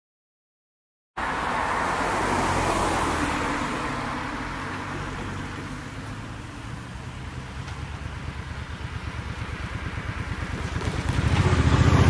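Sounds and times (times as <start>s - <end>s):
car passing by: 1.2s - 12.0s.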